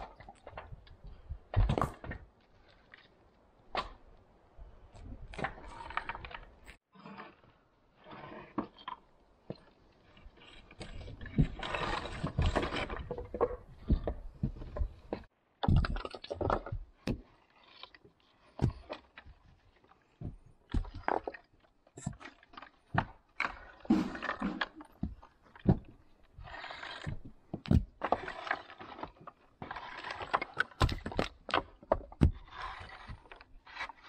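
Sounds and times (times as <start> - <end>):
stones scraping: 5.2 - 34.0.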